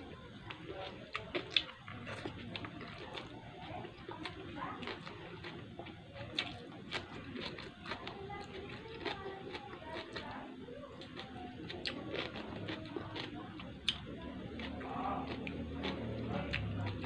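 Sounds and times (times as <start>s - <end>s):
person chewing with mouth clicks: 0.5s - 3.3s, 4.2s - 10.3s, 11.0s - 17.0s.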